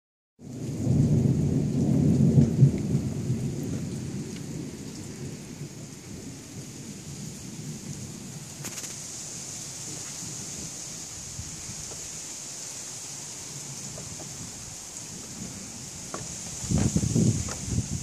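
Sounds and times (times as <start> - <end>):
rain falling: 0.4 - 18.0
thunder rumbling: 0.5 - 12.2, 13.5 - 18.0.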